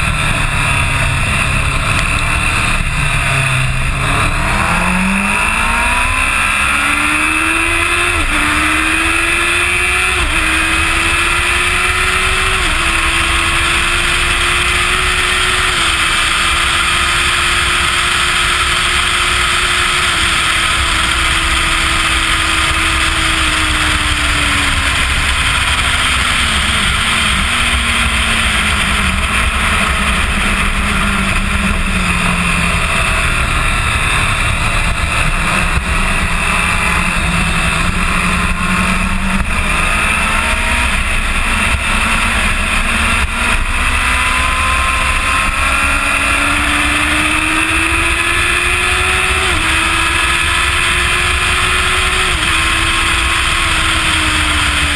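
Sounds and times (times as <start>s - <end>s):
motorcycle engine at speed: 0.0s - 54.9s
rush of wind: 0.0s - 54.9s.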